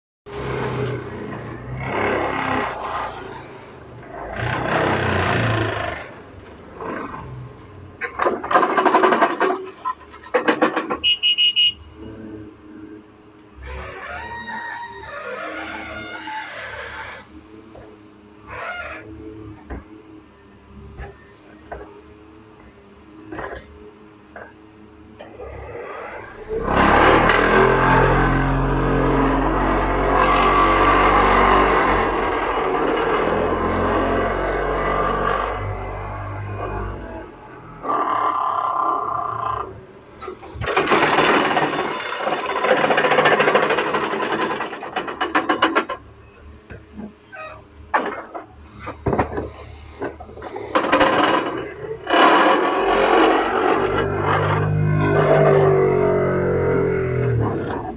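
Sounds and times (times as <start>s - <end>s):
vibratory pile driver droning: 0.3s - 13.8s, 14.8s - 57.9s.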